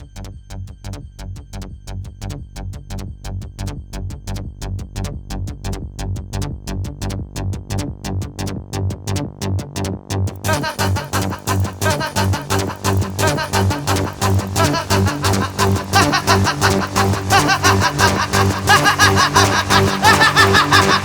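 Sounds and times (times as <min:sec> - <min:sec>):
heavy bass line: 0:00.0 - 0:21.0.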